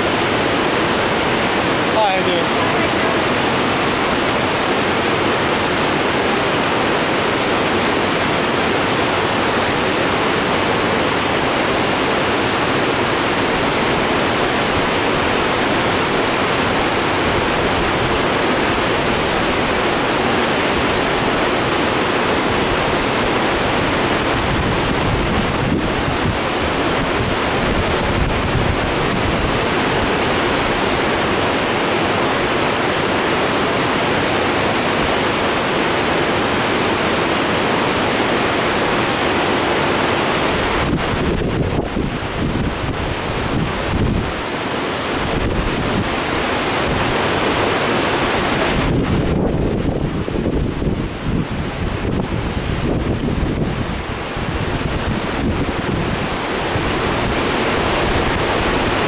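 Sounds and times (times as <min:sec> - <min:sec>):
creek rushing over dam: 0:00.0 - 0:59.0.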